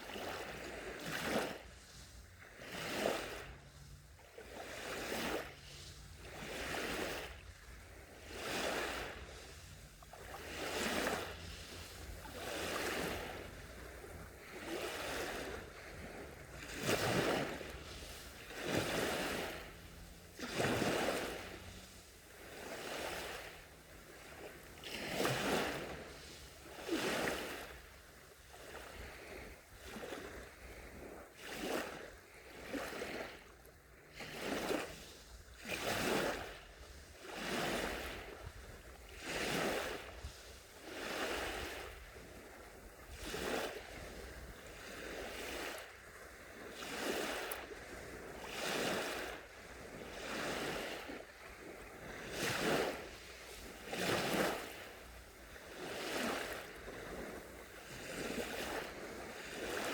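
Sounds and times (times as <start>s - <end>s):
sea waves washing up beach: 0.0s - 59.9s.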